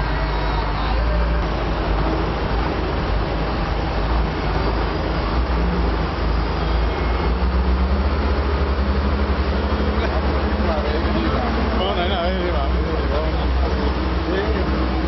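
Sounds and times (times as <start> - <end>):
heavy diesel engines rumbling: 0.0 - 15.0.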